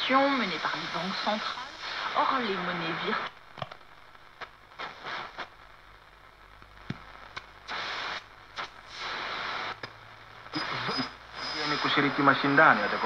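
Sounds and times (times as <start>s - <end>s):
radio static bursts: 0.0s - 13.0s.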